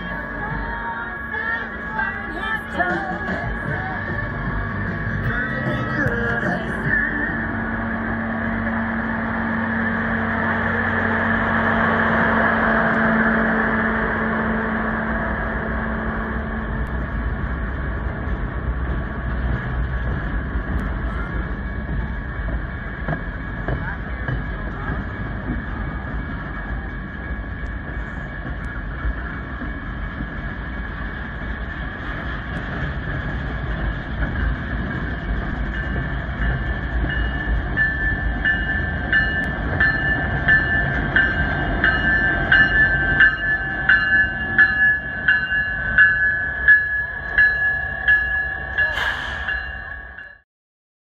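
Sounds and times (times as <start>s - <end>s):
train boxcars rumbling past: 0.0s - 50.4s.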